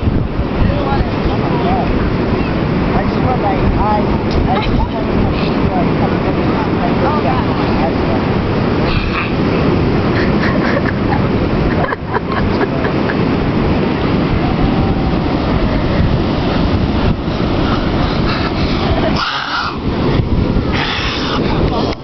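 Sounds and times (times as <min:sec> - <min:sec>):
ocean surf: 0:00.0 - 0:22.0
wind rumbling on microphone: 0:00.0 - 0:22.0.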